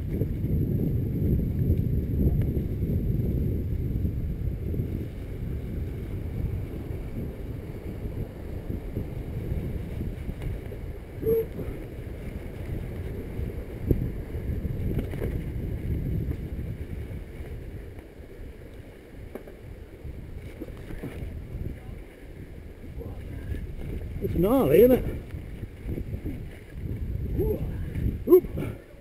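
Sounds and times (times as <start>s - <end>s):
low rumble of fast travel: 0.0s - 29.0s
wind buffeting microphone: 0.0s - 29.0s.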